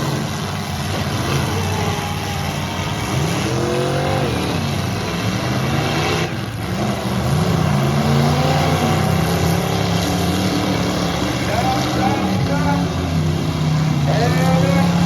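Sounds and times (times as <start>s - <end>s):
constant din: 0.0s - 15.0s
truck engines revving: 0.0s - 15.0s.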